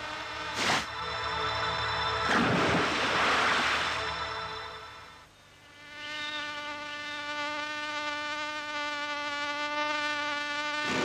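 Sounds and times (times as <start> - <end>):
steady buzzing drone: 0.0 - 11.0.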